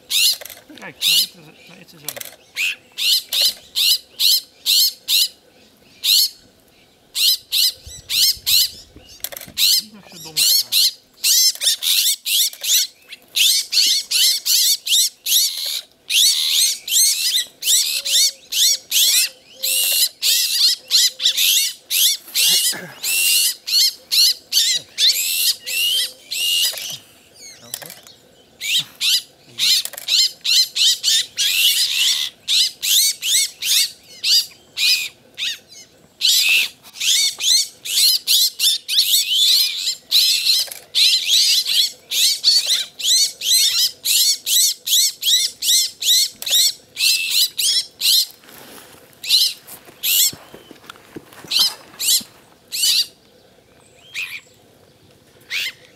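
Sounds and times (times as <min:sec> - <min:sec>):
magpies calling and squabbling: 0:00.0 - 0:06.5, 0:07.1 - 0:48.4, 0:49.2 - 0:50.7, 0:51.4 - 0:54.6, 0:55.4 - 0:55.9.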